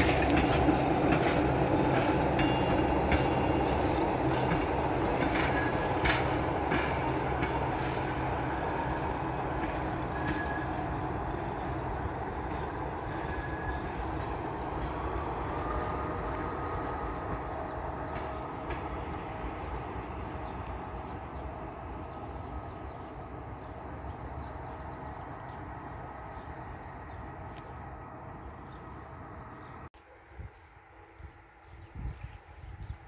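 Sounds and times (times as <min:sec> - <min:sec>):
passenger train rumbling: 0:00.0 - 0:33.0.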